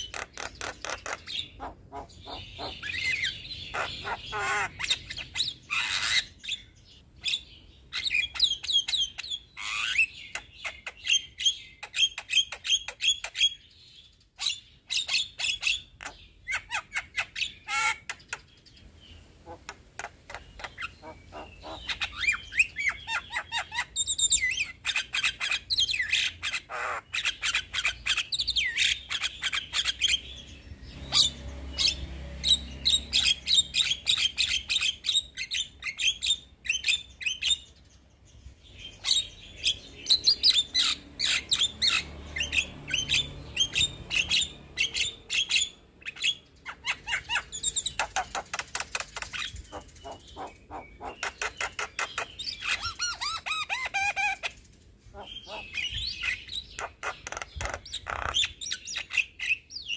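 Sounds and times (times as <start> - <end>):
bird chattering and whistling: 0.0 - 13.8, 14.4 - 37.7, 38.8 - 59.9.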